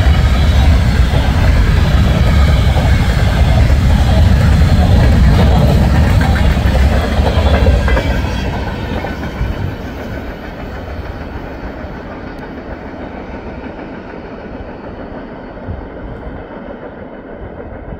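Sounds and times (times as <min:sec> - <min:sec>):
train wheels clickety-clack on rails: 0:00.0 - 0:17.9.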